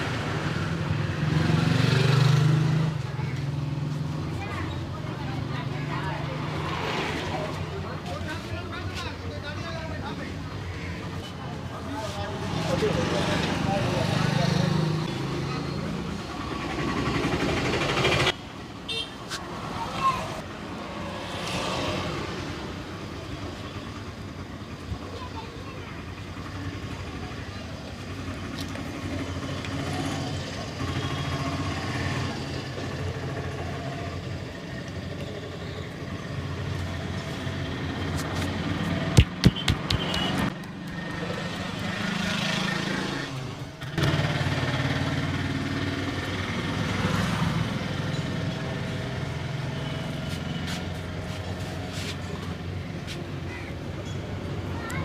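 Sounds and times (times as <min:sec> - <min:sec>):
street traffic noise: 0:00.0 - 0:55.0.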